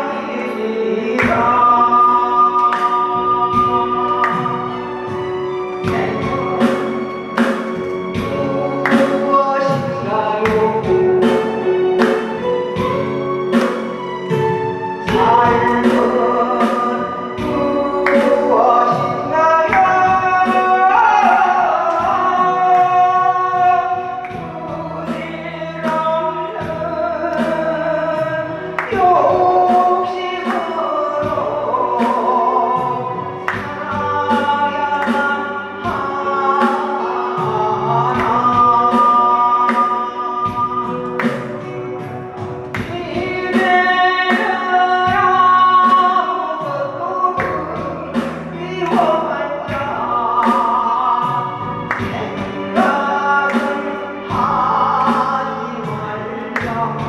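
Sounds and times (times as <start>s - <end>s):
backing track with steady beat: 0.0s - 57.0s
person singing with vibrato: 0.0s - 57.0s.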